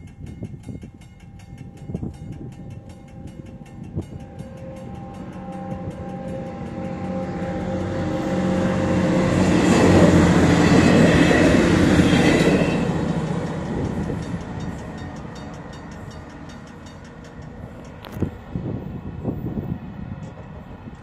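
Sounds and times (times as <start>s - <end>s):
diesel railcar passing: 0.0s - 21.0s.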